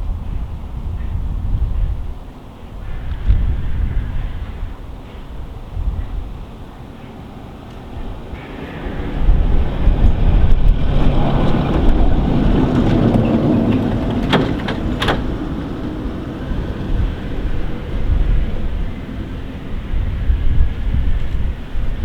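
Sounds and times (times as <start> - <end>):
steam train passing: 0.2 - 22.0.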